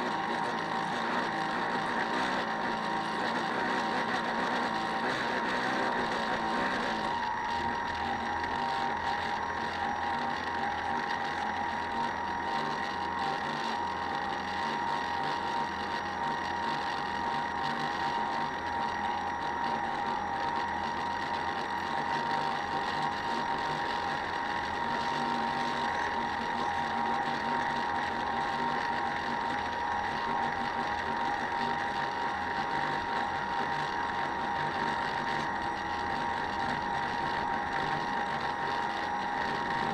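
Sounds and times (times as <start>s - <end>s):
small motor whining: 0.0s - 39.9s.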